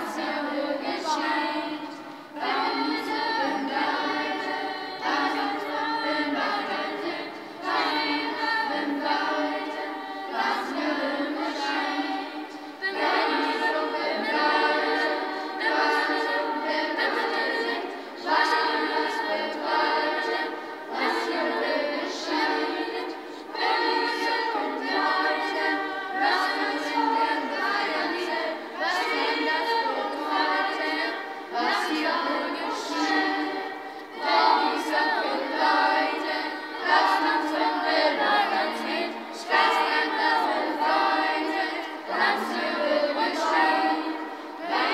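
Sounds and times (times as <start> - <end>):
children's choir singing in unison: 0.0 - 44.9.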